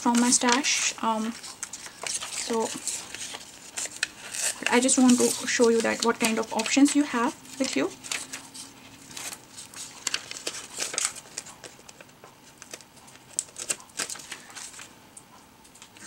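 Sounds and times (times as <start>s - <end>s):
paper rustling and crinkling: 0.0s - 14.9s.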